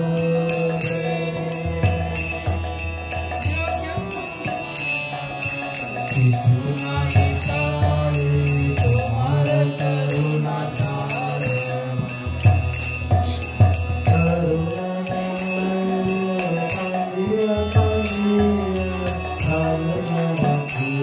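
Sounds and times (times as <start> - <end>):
hand cymbals ringing: 0.0 - 21.0
harmonium chords: 0.0 - 21.0
man singing: 0.0 - 21.0.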